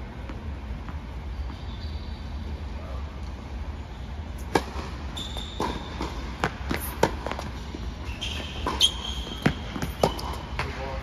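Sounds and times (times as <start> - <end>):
sneaker squeak: 0.9 - 3.1, 3.9 - 10.8.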